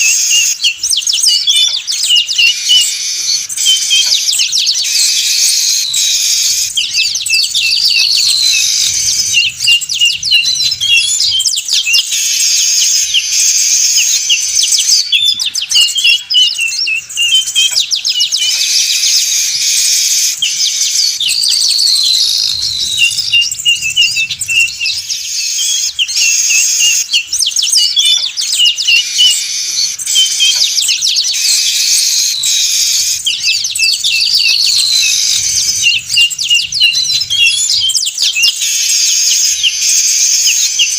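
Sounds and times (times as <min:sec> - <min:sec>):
weaver birds chattering chorus: 0:00.0 - 0:40.9.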